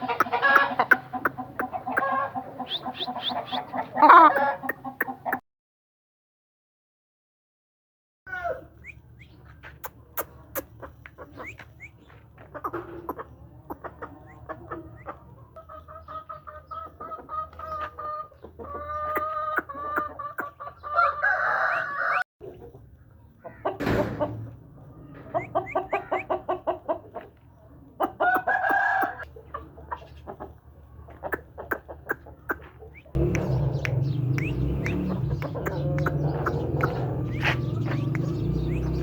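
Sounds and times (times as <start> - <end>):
roosters crowing and clucking: 0.0 - 5.4, 8.3 - 39.0.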